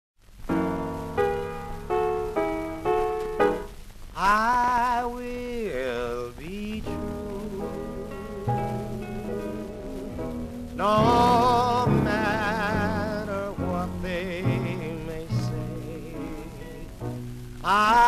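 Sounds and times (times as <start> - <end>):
slow piano chords: 0.4 - 18.0.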